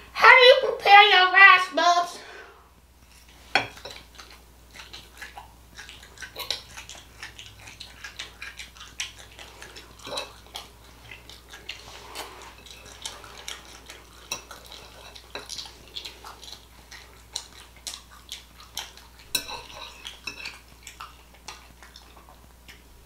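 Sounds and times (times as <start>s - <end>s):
close chewing and mouth sounds: 3.0s - 23.0s.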